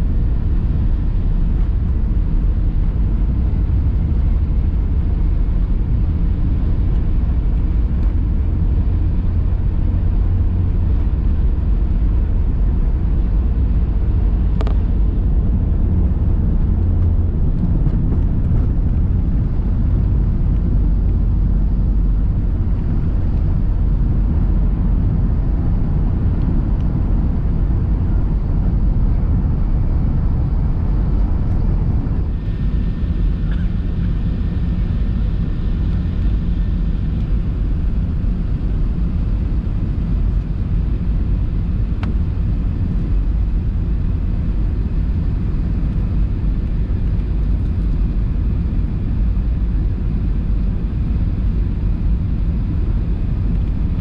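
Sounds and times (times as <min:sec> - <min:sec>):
aircraft engine and airflow rumble: 0:00.0 - 0:54.0.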